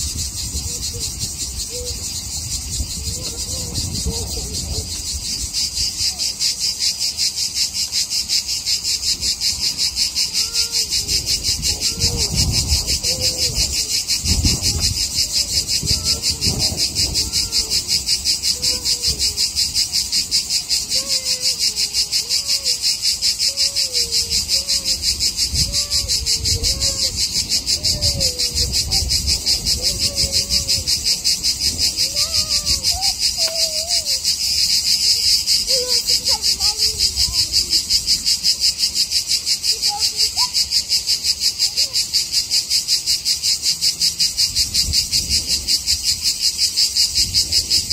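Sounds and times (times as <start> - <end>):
cicada buzzing: 0.0 - 47.9.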